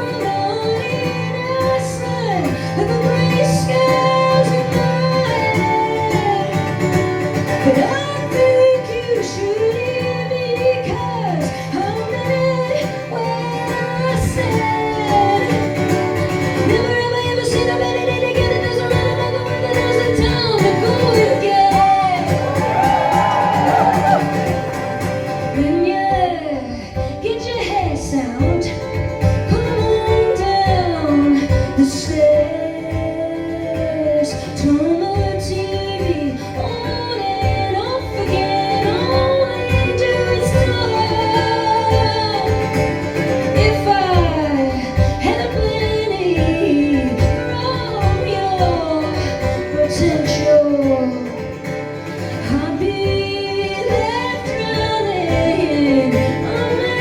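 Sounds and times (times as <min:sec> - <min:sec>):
woman singing: 0:00.0 - 0:57.0.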